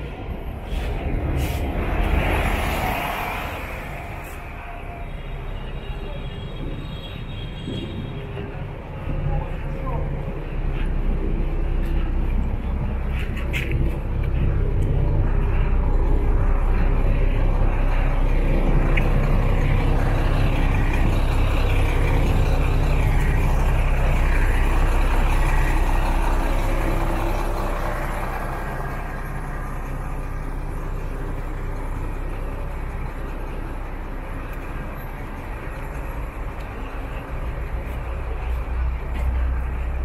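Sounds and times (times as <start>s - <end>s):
engine idling: 0.0s - 40.0s
street noise: 0.0s - 40.0s.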